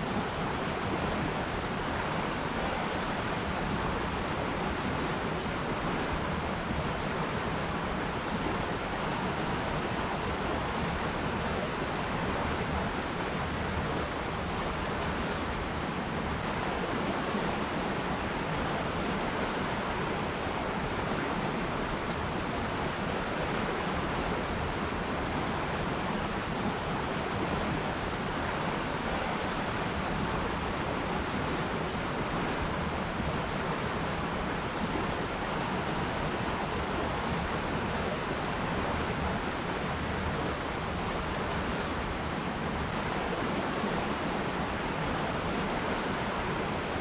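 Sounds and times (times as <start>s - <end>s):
river water rushing: 0.0s - 47.0s.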